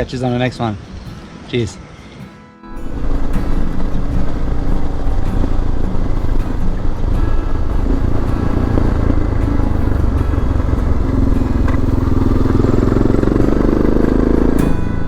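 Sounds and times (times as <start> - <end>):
motorcycle engine running: 2.8 - 15.0.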